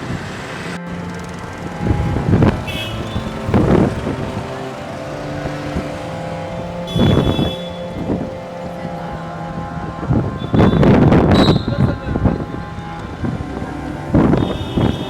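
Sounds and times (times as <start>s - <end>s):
vehicle engines running: 0.0s - 15.0s
vehicles passing close by: 0.0s - 15.0s.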